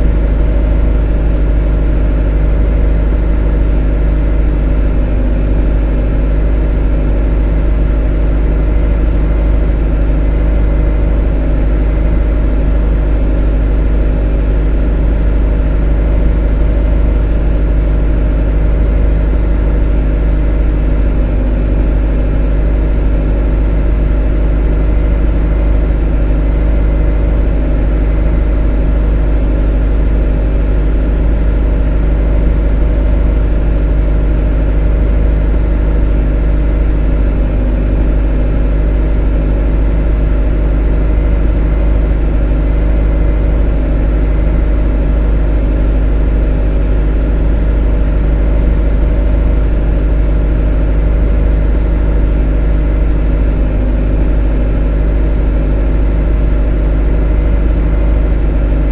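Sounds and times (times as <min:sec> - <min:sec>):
motor running: 0:00.0 - 0:58.9.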